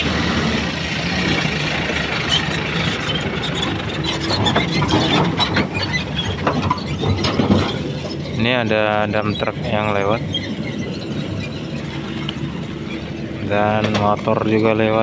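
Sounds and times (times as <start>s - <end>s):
dump truck driving past: 0.0s - 15.0s
excavator diesel engine: 0.0s - 15.0s
clanks and rattles: 1.1s - 15.0s.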